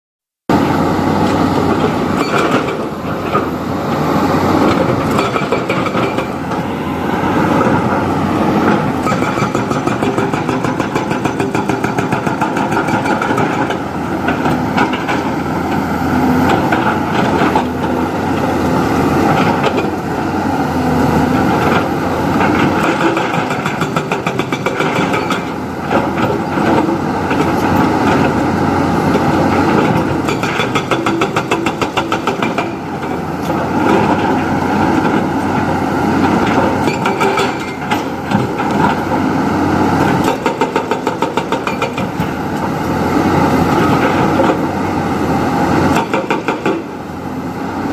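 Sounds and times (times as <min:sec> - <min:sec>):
heavy machinery diesel engine: 0:00.5 - 0:47.9.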